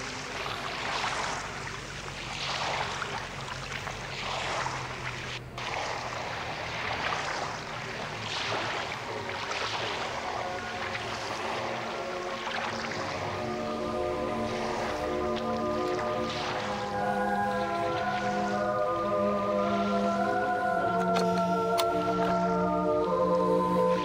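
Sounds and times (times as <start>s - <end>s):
small waves lapping: 0.0s - 24.0s.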